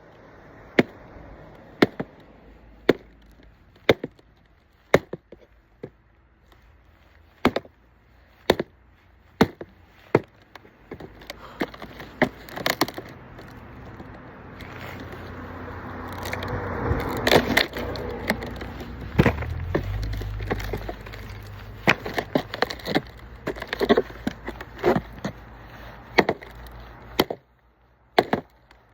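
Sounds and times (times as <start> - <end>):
axe splitting firewood: 0.7 - 6.0, 7.3 - 7.8, 8.4 - 8.8, 9.4 - 27.5, 28.1 - 28.9.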